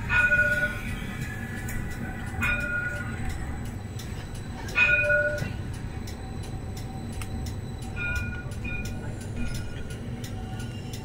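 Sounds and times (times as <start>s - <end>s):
tram rumbling on track: 0.0s - 11.0s
tram warning gong: 0.0s - 11.0s.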